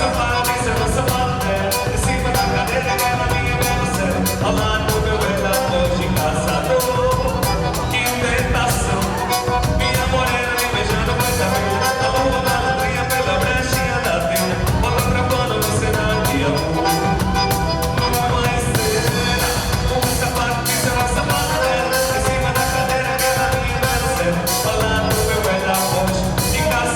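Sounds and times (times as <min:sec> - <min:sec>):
dance music with singing: 0:00.0 - 0:26.9.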